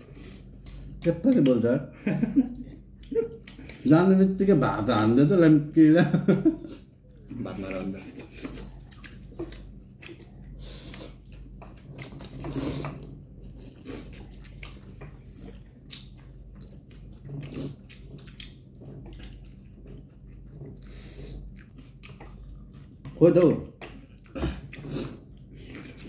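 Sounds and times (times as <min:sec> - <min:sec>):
people chewing noodles: 0:00.0 - 0:05.2, 0:06.4 - 0:26.0
low steady hum: 0:00.0 - 0:26.0.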